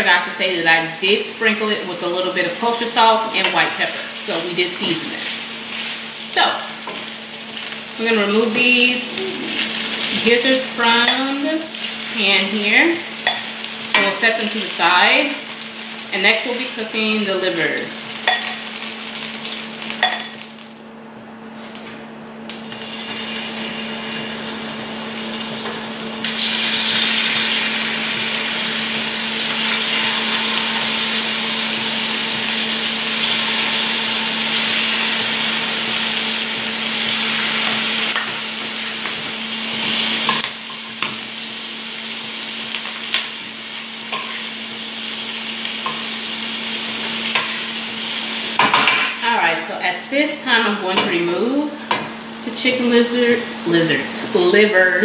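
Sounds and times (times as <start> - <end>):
livers sizzling in hot oil: 0.2 - 20.8, 22.5 - 55.0.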